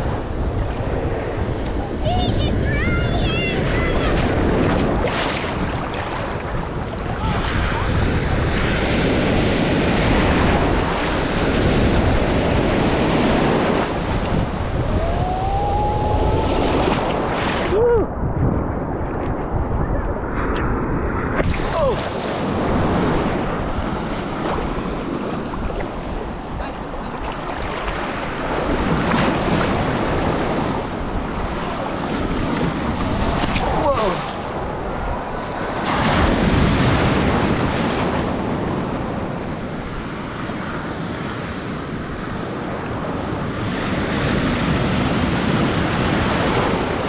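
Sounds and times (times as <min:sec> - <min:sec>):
ocean surf breaking: 0:00.0 - 0:47.0
wind buffeting microphone: 0:00.0 - 0:47.0.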